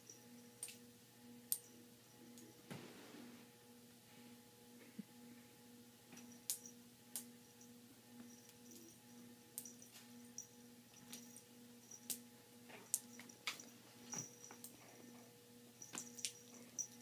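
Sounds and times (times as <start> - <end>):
faint pulsing hum: 0.0 - 17.0.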